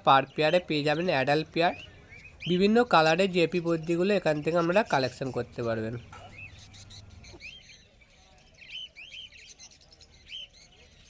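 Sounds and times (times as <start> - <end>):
pet birds chirping: 0.0 - 11.0.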